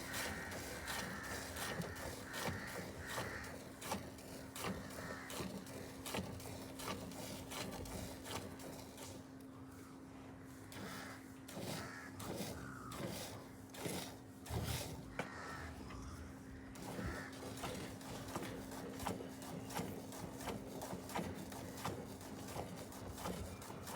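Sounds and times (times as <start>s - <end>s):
cow milking strokes: 0.0s - 9.8s, 10.4s - 23.9s.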